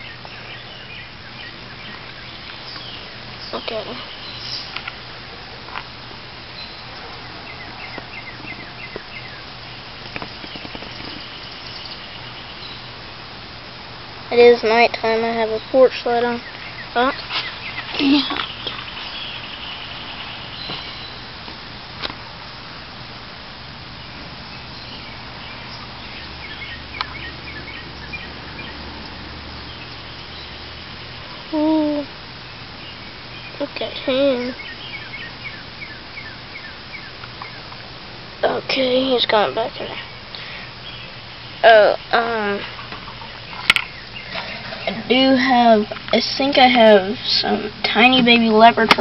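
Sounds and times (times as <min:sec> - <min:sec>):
steady hiss: 0:00.0 - 0:49.0.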